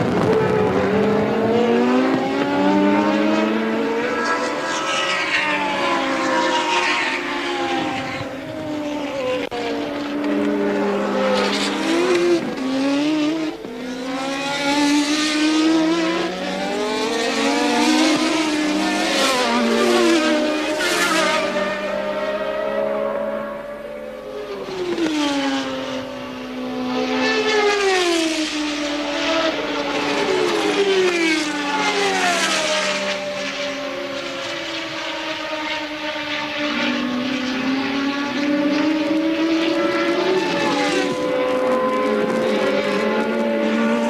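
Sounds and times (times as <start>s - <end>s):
racing car engines: 0.0s - 44.0s.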